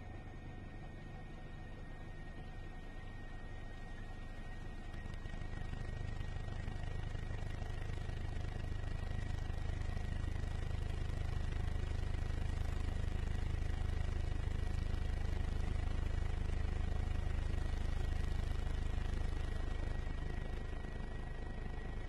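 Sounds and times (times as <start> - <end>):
helicopter rotor and engine drone: 0.0 - 22.0
thin steady whine: 0.0 - 22.0.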